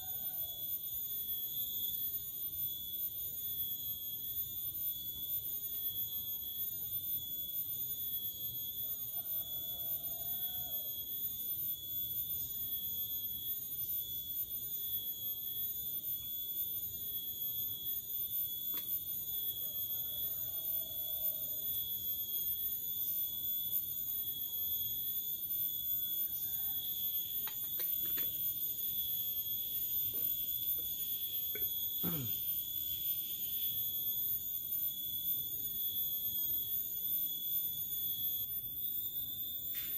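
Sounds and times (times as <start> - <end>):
high-pitched insect buzzing: 0.0 - 39.9.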